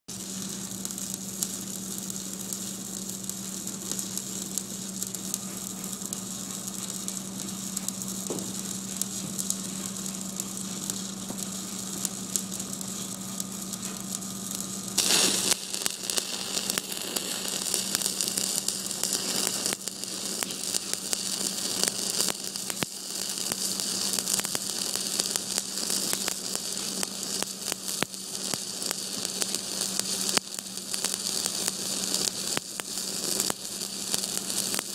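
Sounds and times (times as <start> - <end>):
steady electrical hum: 0.1 - 34.9
welding arc crackling: 0.1 - 34.9.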